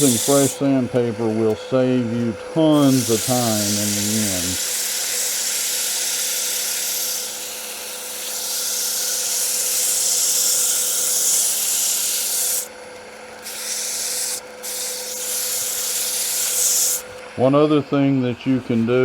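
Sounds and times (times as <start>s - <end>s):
sandpaper rasping on spinning wood: 0.0s - 1.9s, 2.6s - 12.7s, 13.4s - 17.1s
lathe low hum: 0.0s - 19.0s.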